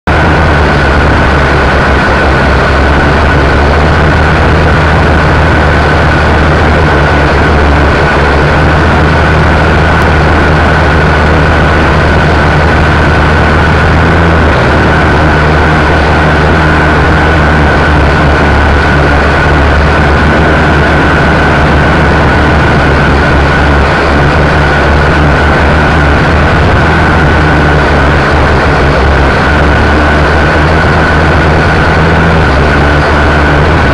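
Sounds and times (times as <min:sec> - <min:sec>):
drone motors whirring: 0:00.1 - 0:33.9.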